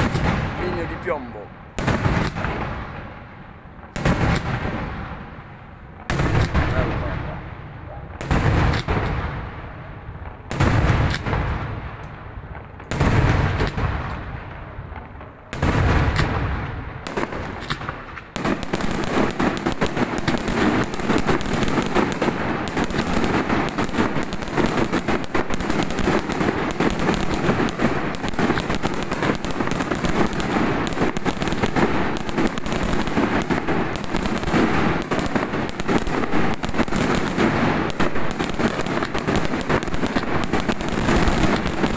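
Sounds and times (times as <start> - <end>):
firecrackers crackling: 0.0 - 41.9
firework bangs echoing: 0.0 - 41.9.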